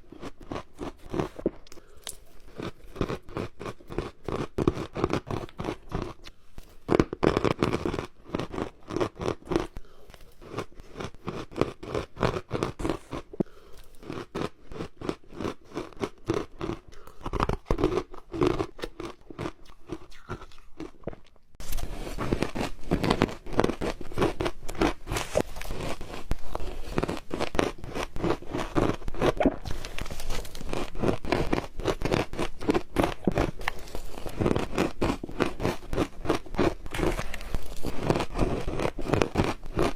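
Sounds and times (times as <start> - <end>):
ice cubes crunched by teeth: 0.0 - 39.9.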